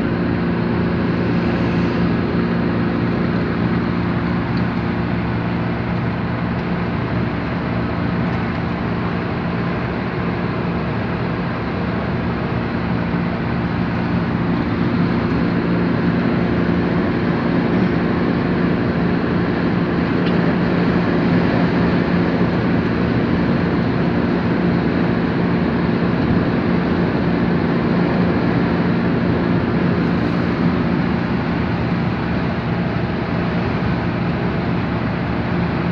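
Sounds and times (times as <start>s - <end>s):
road noise: 0.0s - 35.9s
vehicle engine hum: 0.0s - 35.9s.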